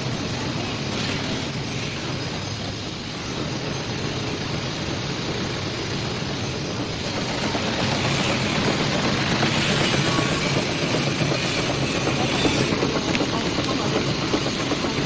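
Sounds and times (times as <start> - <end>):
packing machine running: 0.0 - 15.0.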